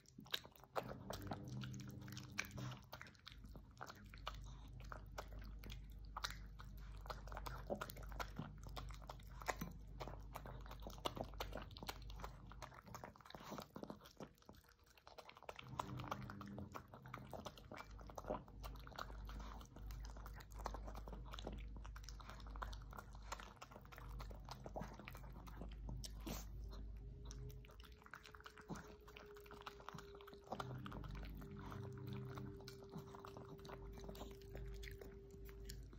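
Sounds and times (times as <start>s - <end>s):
dog chewing and smacking: 0.0s - 35.9s.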